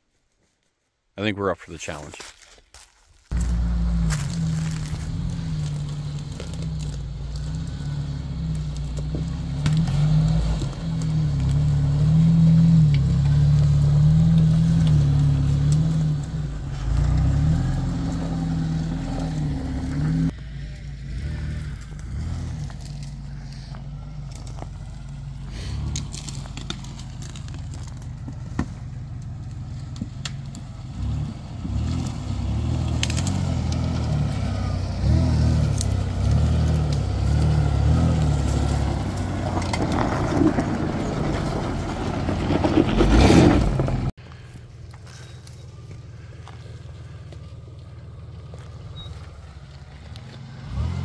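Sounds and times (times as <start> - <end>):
branches snapping and scraping: 2.2 - 51.0
truck engine revving: 3.3 - 44.2, 47.7 - 51.0.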